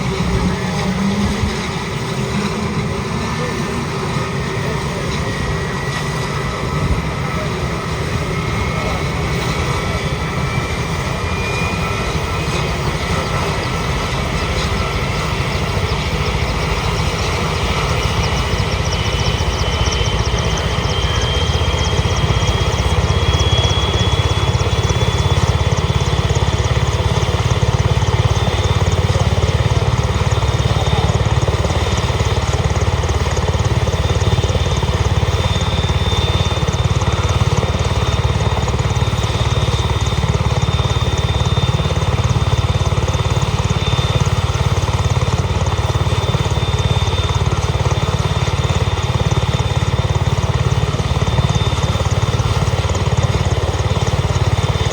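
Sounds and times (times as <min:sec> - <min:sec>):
helicopter rotor chop: 0:00.0 - 0:54.9
turbine whine rising: 0:00.0 - 0:54.9.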